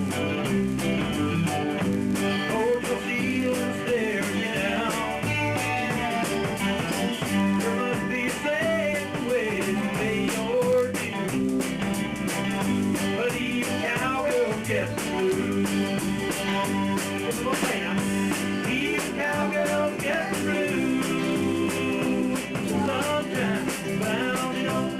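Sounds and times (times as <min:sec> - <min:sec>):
rock band playing: 0:00.0 - 0:24.9.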